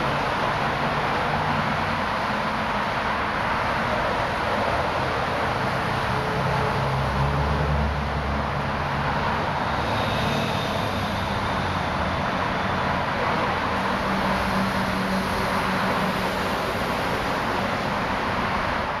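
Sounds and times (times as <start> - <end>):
heavy traffic noise: 0.0 - 19.0.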